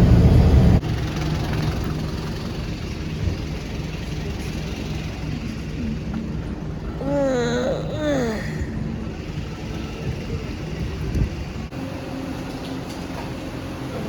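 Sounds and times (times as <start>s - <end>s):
vehicle engine hum and road noise: 0.0s - 14.0s.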